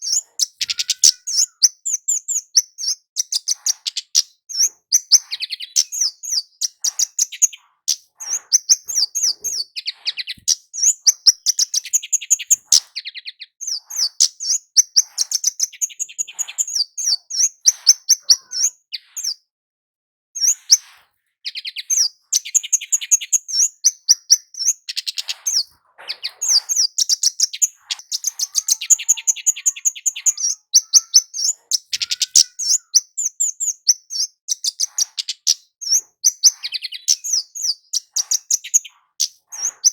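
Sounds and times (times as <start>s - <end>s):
bird chirping sharply: 0.0s - 19.4s, 20.4s - 39.9s.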